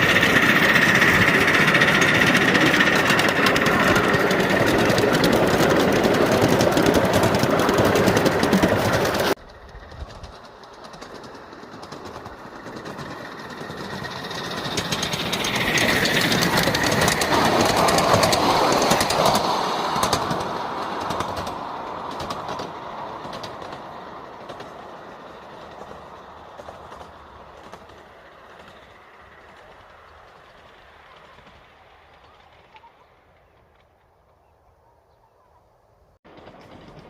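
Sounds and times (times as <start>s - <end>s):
wheels clicking over rails: 0.0s - 34.4s, 36.3s - 37.0s
steam locomotive passing: 0.0s - 34.8s, 36.1s - 37.0s.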